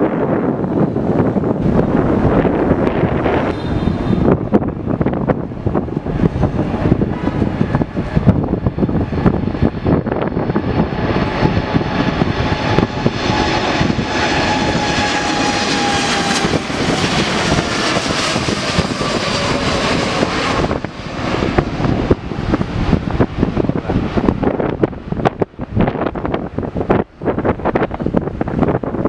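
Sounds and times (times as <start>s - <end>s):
jet engines passing overhead: 0.0s - 29.0s
wind on microphone: 0.0s - 29.0s.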